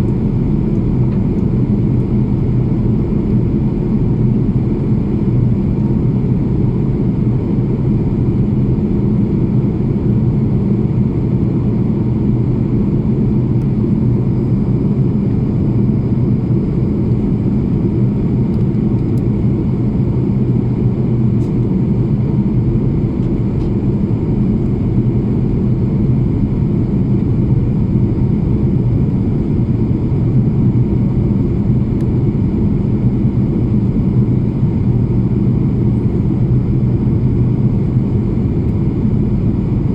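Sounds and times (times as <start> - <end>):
airplane engines droning: 0.0 - 39.9.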